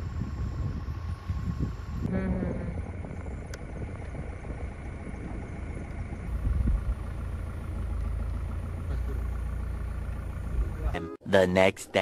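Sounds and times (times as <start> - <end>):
jeep engine idling: 0.0 - 11.7.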